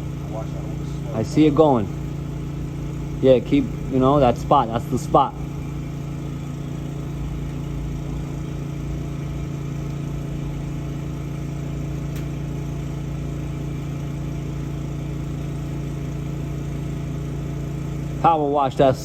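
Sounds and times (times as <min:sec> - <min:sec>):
water jetter engine running: 0:00.0 - 0:19.0.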